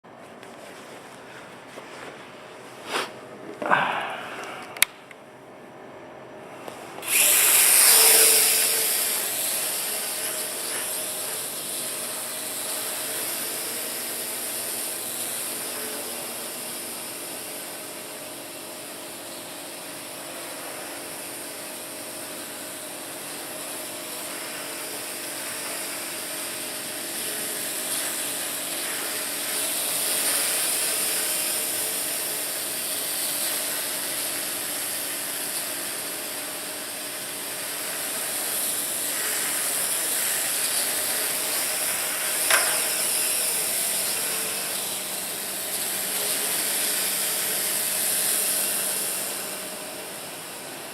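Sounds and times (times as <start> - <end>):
toy drone buzzing whine: 7.0 - 18.2, 18.8 - 50.1.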